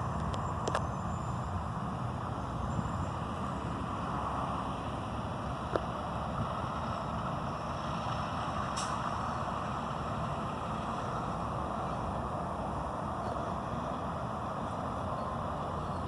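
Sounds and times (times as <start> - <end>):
heavy vehicle rumble: 0.0 - 16.0.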